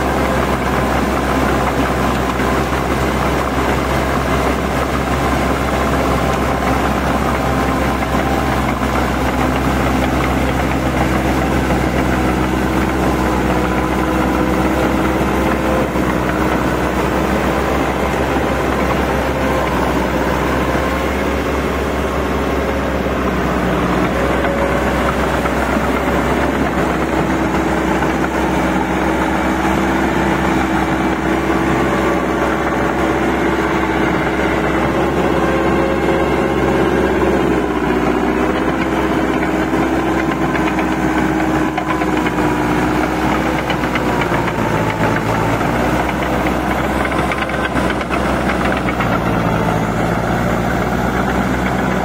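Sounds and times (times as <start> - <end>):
tractor diesel engine under load: 0.0 - 52.0.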